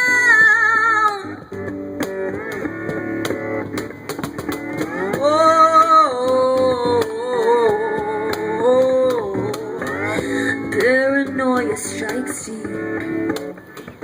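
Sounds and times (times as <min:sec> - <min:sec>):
acoustic guitar strumming: 0:01.3 - 0:14.0.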